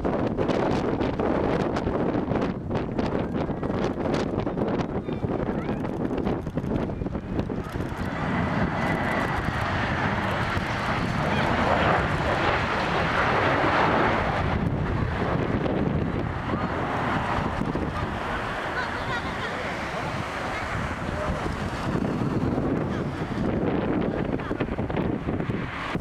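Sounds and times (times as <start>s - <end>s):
jet engines roaring past: 0.2s - 26.0s.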